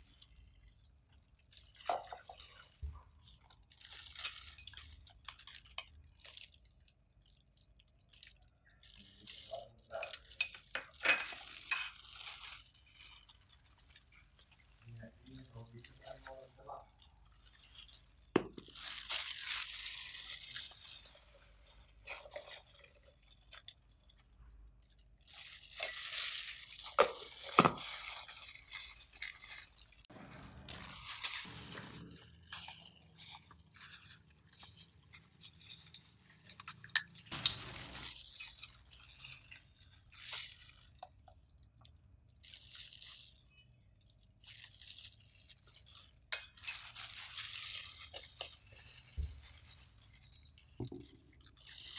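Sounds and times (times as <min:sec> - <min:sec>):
plastic gloves rustling: 0:00.0 - 0:51.9.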